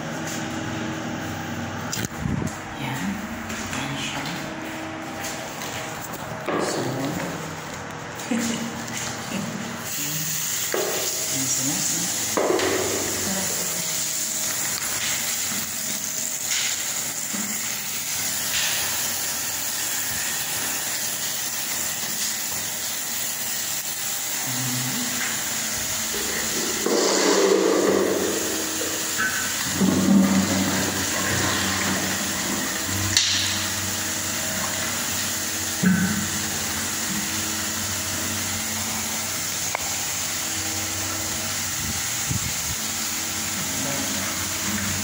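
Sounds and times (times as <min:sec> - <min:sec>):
water running in toilet bowl: 0:08.4 - 0:45.0.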